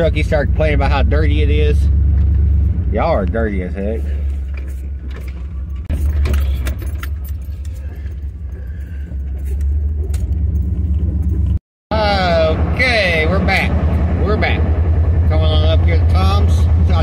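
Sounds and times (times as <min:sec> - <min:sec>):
truck engine and tyres droning: 0:00.0 - 0:17.0.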